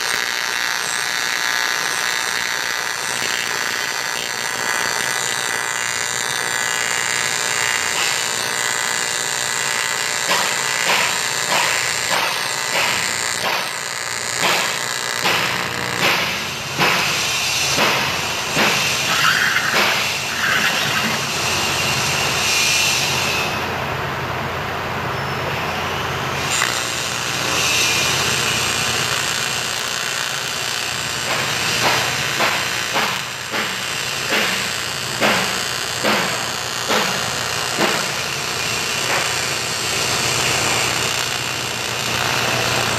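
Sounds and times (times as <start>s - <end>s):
welding arc buzzing: 0.0s - 23.8s, 25.4s - 42.9s.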